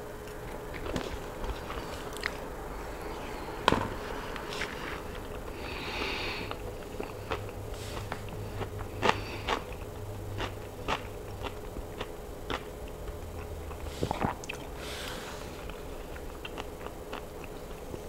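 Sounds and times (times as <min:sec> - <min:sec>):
person chewing food: 0:00.5 - 0:03.4, 0:04.2 - 0:18.0.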